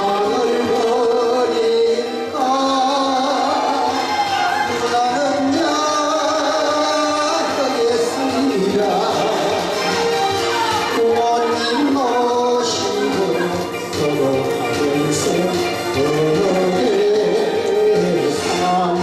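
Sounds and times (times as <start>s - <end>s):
person singing with music: 0.0s - 19.0s.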